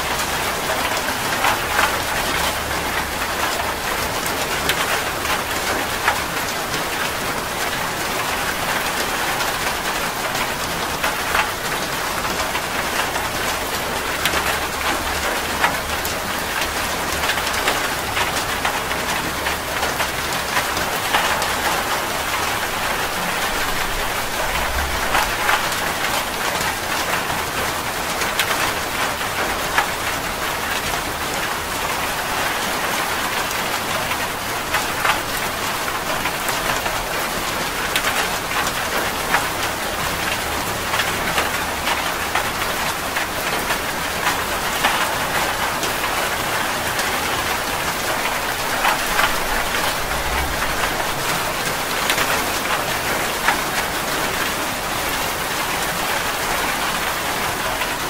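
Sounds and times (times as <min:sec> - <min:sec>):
rain splattering on a surface: 0:00.0 - 0:58.0.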